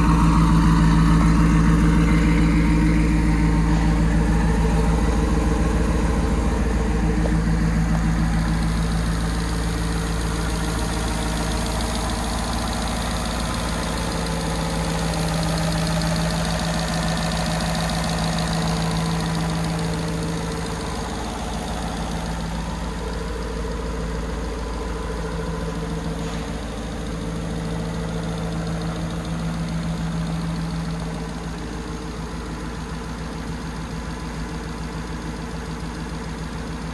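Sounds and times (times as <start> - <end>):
truck engine idling: 0.0 - 36.9.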